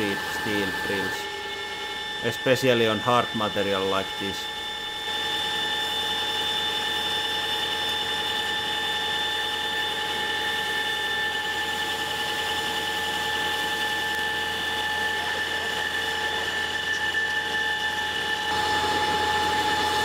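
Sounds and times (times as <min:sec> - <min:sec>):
lathe drilling high whine: 0:00.0 - 0:20.0.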